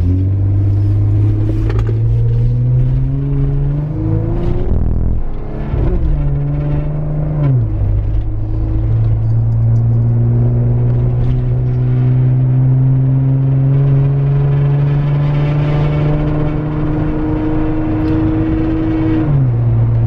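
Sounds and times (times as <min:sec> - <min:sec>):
car engine drone from inside: 0:00.0 - 0:20.0.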